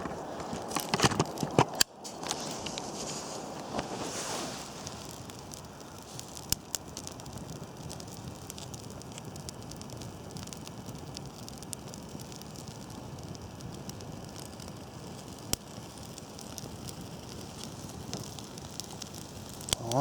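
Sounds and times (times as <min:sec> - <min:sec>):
campfire crackling: 0:00.0 - 0:20.0
fire pops: 0:00.0 - 0:20.0.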